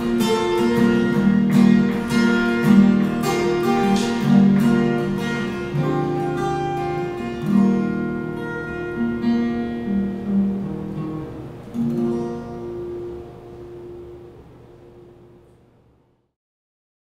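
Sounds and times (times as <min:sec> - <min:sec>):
acoustic guitar chords: 0:00.0 - 0:16.1.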